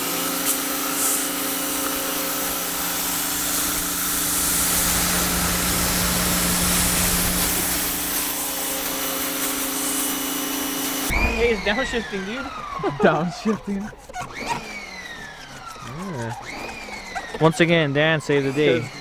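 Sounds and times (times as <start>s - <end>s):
pressure washer motor humming: 0.0s - 19.0s
water jet spraying: 0.0s - 19.0s.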